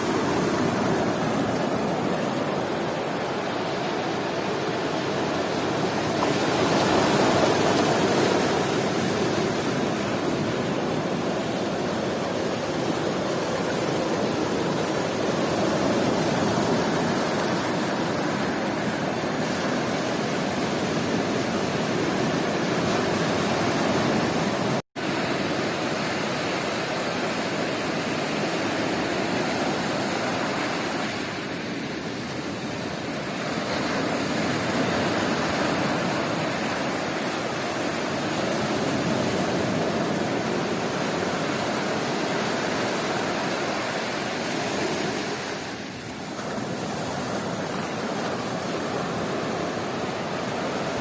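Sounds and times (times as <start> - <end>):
waves breaking on a beach: 0.0 - 51.0.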